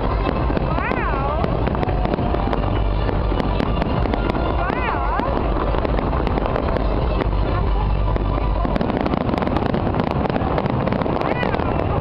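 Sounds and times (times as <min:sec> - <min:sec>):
deep rumble: 0:00.0 - 0:12.0
fireworks bangs and crackles: 0:00.0 - 0:12.0.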